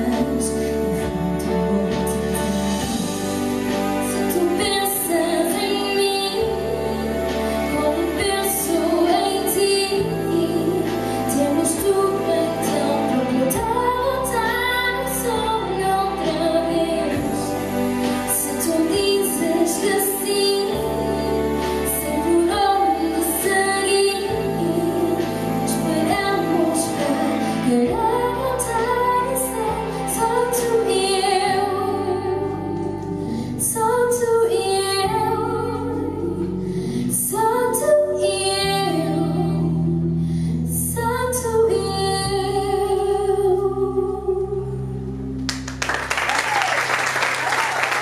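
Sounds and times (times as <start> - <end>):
woman singing into microphone: 0.0 - 3.2, 4.0 - 45.0.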